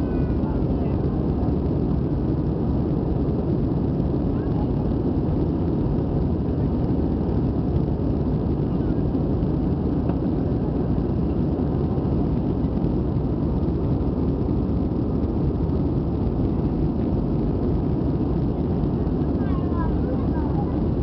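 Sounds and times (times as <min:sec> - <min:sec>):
jet engine and airflow roar: 0:00.0 - 0:21.0.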